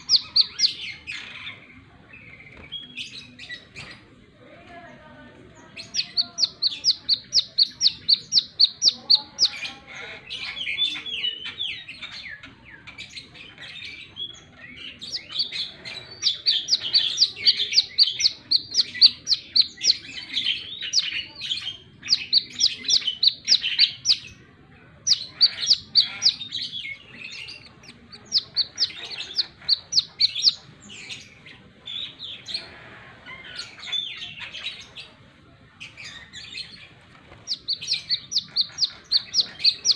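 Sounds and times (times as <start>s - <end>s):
sunbird singing high chirps: 0.0s - 3.8s, 5.6s - 24.4s, 25.0s - 32.6s, 35.8s - 39.9s.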